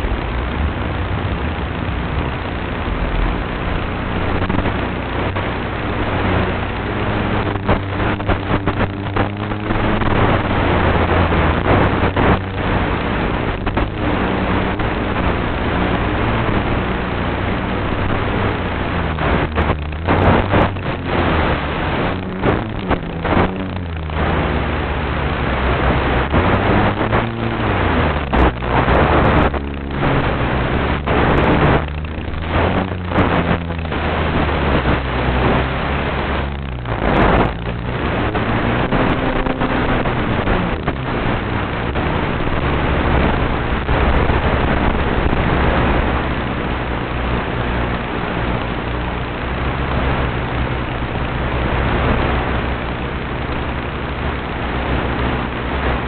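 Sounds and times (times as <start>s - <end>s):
wind noise: 0.0s - 56.0s.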